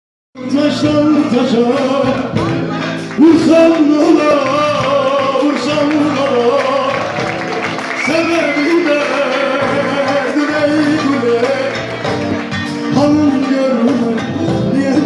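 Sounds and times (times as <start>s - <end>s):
sustained instrumental accompaniment: 0.5s - 15.0s.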